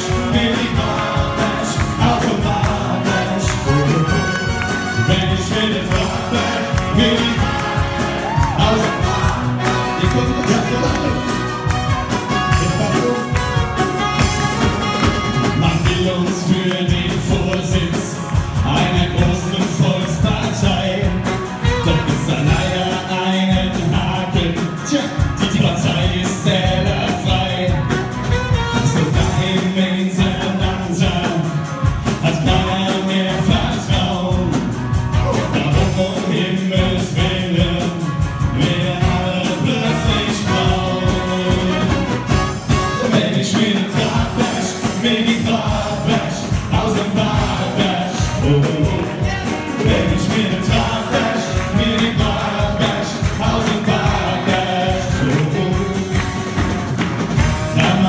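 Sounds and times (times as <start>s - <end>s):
men singing into microphones: 0.0s - 11.6s, 12.3s - 56.8s, 57.5s - 58.0s.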